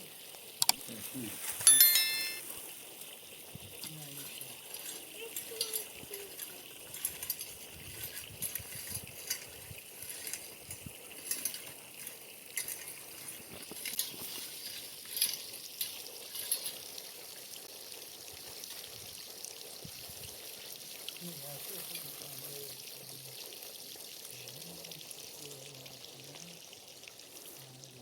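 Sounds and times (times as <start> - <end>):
water trickling and pouring: 0.0 - 28.0.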